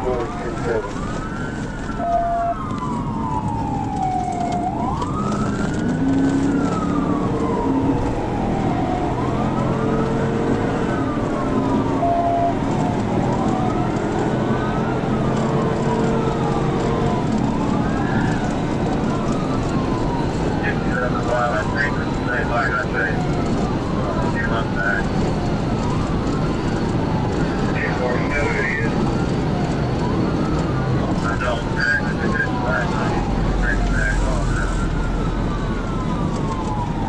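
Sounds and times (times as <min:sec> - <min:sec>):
car engine and road noise: 0:00.0 - 0:37.0
police siren wailing: 0:00.0 - 0:37.0.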